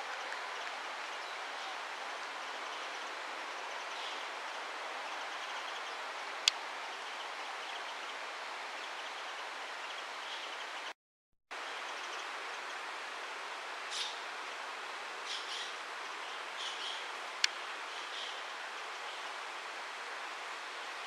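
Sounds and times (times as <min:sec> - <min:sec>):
outdoor background hiss: 0:00.0 - 0:10.9, 0:11.5 - 0:21.0.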